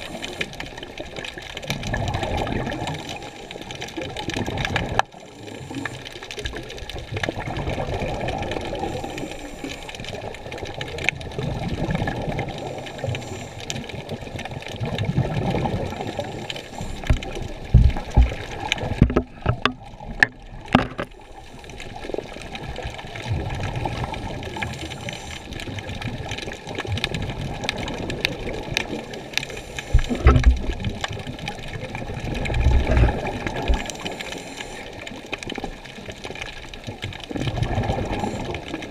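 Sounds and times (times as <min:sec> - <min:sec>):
muffled water sloshing: 0:00.0 - 0:38.9.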